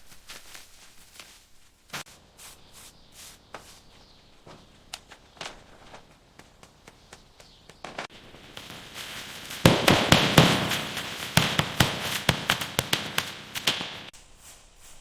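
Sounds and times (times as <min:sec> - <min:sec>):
faint taps clicks and scuffs: 0:00.2 - 0:14.1.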